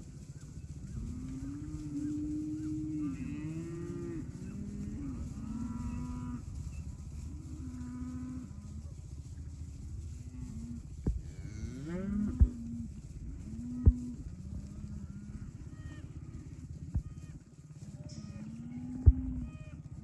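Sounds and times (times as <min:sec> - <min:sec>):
steady low rumble: 0:00.0 - 0:03.2, 0:03.8 - 0:20.0
cows mooing: 0:00.9 - 0:08.9, 0:10.2 - 0:19.8.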